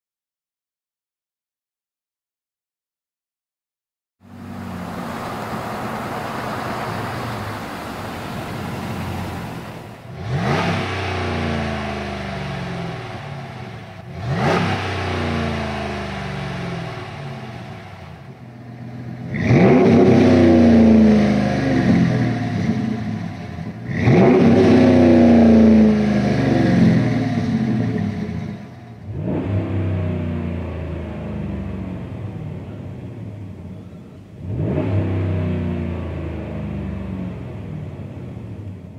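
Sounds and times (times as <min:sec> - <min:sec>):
engine idling and revving: 0:04.2 - 0:38.9.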